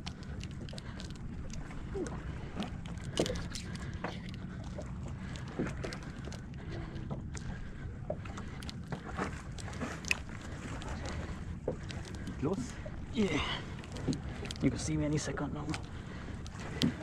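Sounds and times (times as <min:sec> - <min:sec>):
water slapping boat hull: 0:00.0 - 0:17.0.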